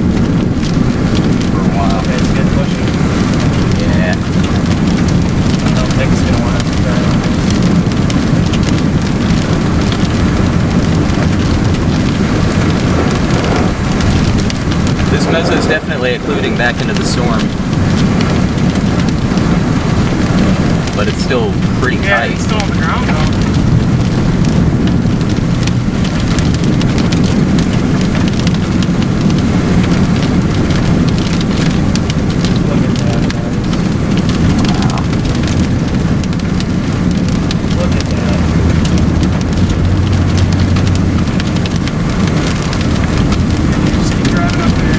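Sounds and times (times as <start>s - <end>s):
rain ticking on car body: 0.0s - 44.9s
tyres and engine rumble: 0.0s - 44.9s
wind buffeting and road noise: 0.0s - 44.9s.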